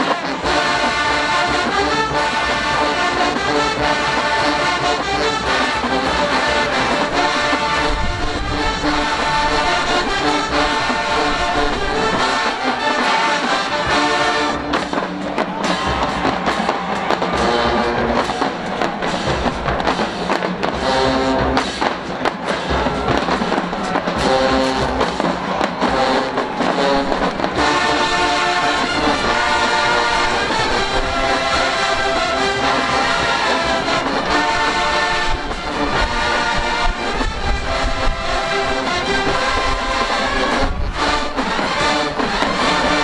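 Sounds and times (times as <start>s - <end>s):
drum strikes: 0.0s - 36.4s
brass chords: 0.0s - 43.0s.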